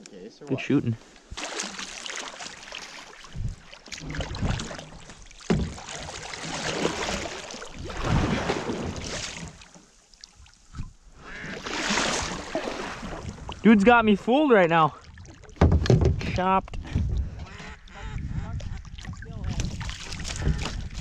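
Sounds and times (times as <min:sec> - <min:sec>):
paddle strokes splashing water: 0:01.0 - 0:14.0, 0:17.0 - 0:21.0.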